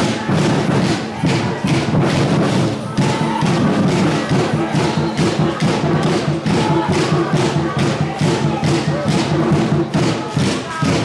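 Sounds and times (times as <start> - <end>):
music with fast thumping beat: 0.0 - 11.0
voices chanting or singing: 0.0 - 11.0.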